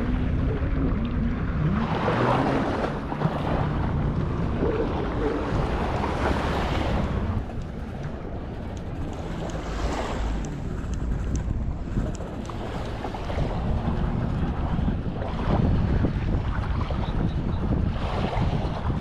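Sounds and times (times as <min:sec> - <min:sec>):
water washing and sloshing: 0:00.0 - 0:19.0
wind buffeting microphone: 0:00.0 - 0:19.0.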